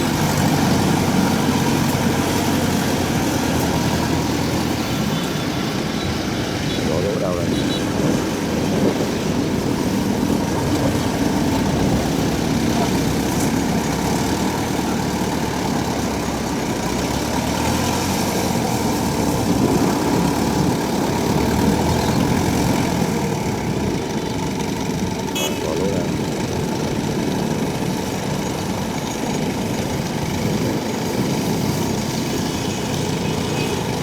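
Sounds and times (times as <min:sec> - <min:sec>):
combine harvester diesel engine: 0:00.0 - 0:34.0.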